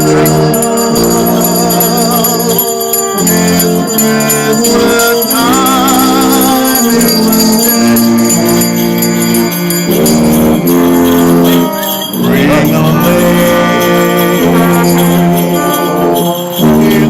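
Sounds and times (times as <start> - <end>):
brass band playing slow tune: 0.0 - 17.0.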